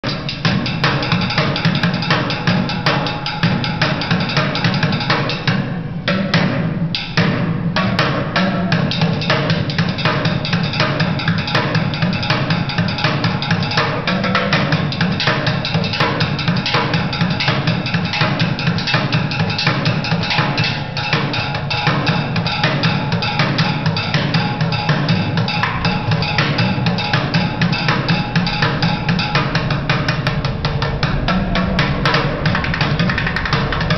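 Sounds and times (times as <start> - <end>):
live drums playing fast: 0.0 - 33.9.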